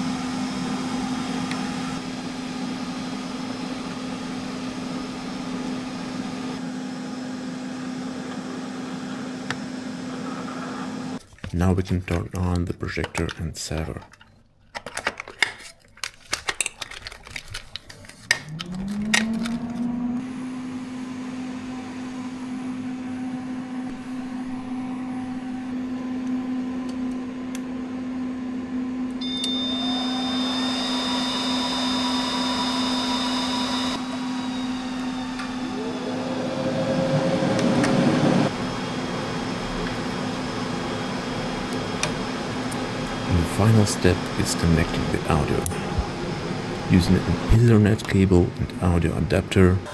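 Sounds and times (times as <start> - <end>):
second fan whine: 0.0 - 11.2, 18.2 - 49.9
projector cooling fans humming: 0.0 - 14.1, 18.0 - 49.9.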